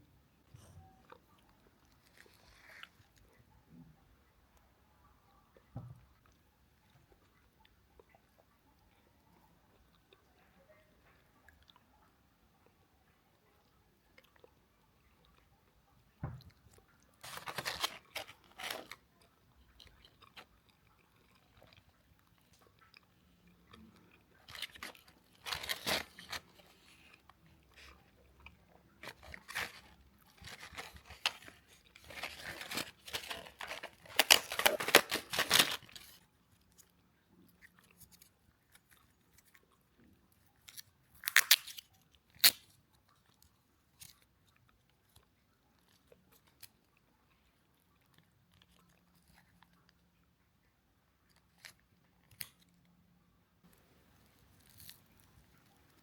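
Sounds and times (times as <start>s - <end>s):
chewing crispy fries: 1.0s - 3.5s, 5.5s - 52.9s.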